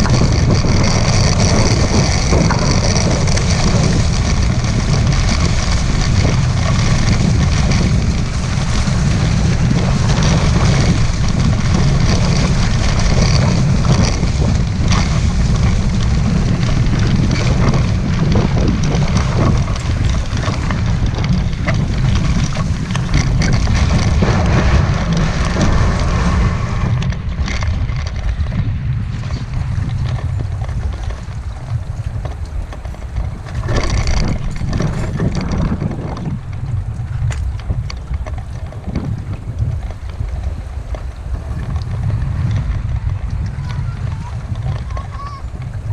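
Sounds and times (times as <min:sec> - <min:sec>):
water rushing past hulls: 0:00.0 - 0:45.9
wind buffeting microphone: 0:00.0 - 0:45.9.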